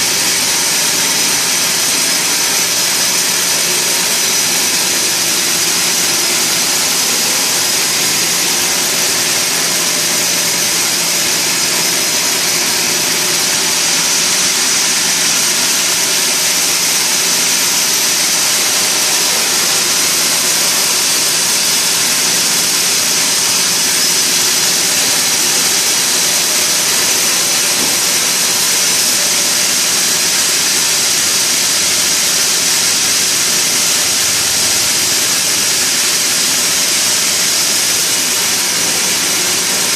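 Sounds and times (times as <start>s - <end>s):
sawmill machinery hiss: 0.0s - 39.9s.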